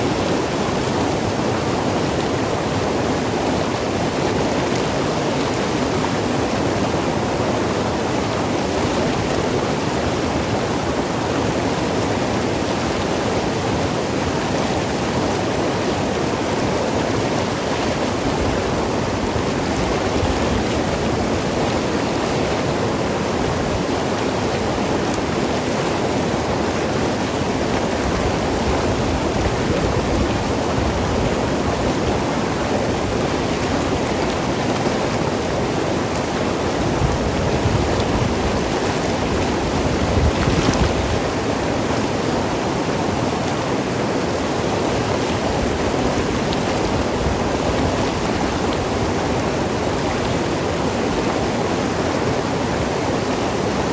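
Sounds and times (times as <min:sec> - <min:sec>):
river gurgling over rocks: 0:00.0 - 0:53.9.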